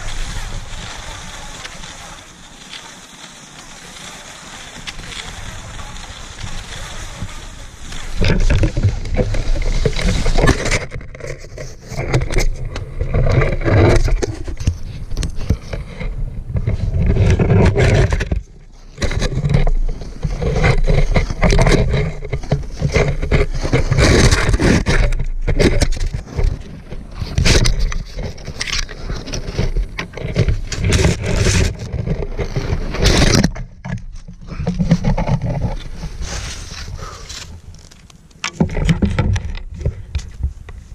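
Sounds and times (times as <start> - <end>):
skis scraping over crusty snow: 0.0 - 40.9.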